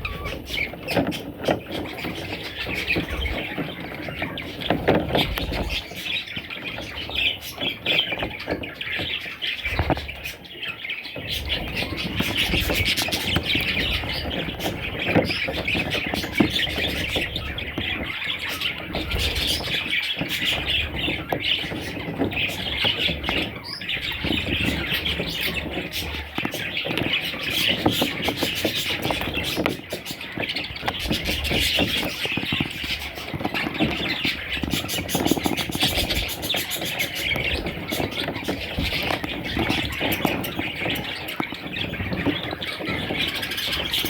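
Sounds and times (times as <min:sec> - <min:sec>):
budgerigars chattering and squawking: 0:00.0 - 0:44.0.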